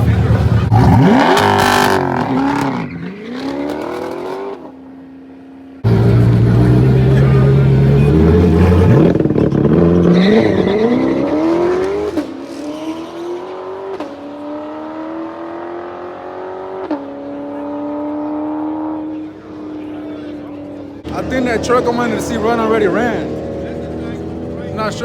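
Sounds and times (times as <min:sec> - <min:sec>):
drag racing car accelerating: 0:00.0 - 0:04.8, 0:05.8 - 0:25.0.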